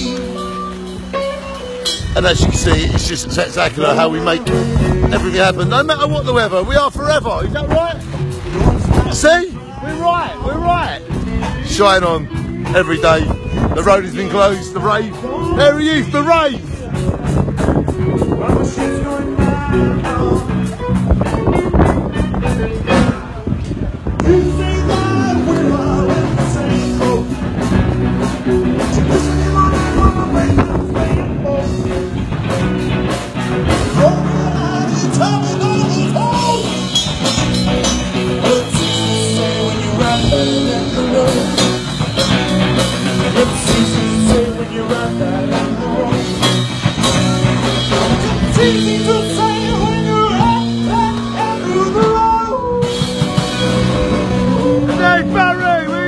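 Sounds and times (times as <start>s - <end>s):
rock music with singing: 0.0s - 56.0s.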